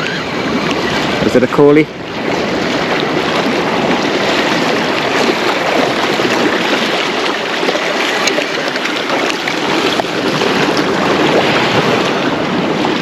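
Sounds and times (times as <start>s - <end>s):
waves splashing over rocks: 0.0s - 13.0s.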